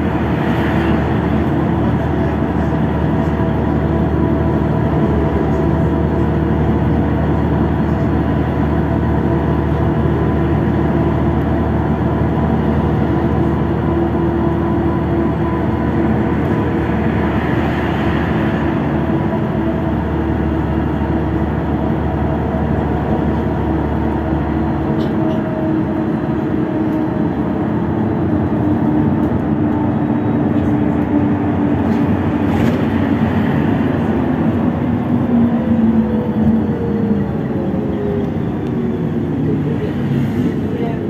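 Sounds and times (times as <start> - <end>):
bus engine drone: 0.0 - 41.0
tyre and road noise: 0.0 - 41.0.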